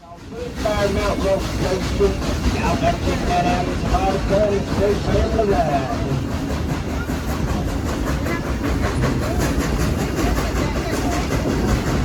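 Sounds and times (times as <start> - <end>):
train cars clattering on track: 0.0 - 12.0.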